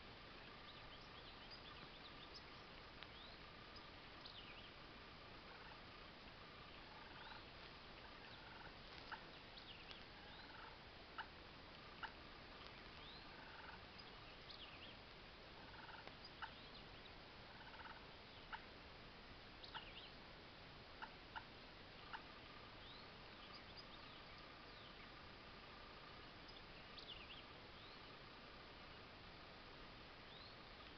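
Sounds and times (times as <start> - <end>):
distant turkey calls: 0.4 - 18.8, 19.6 - 20.2, 20.9 - 29.1.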